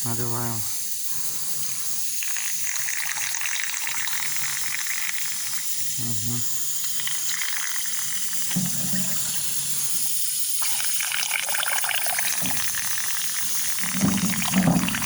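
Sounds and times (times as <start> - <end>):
air hissing and gurgling through liquid: 0.0 - 15.0.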